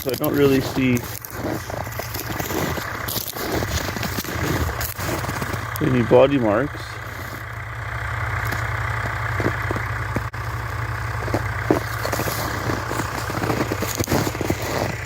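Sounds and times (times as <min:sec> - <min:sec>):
footsteps crunching in snow: 0:00.0 - 0:06.0, 0:07.0 - 0:07.6, 0:08.4 - 0:15.0
tractor engine idling: 0:00.0 - 0:15.0.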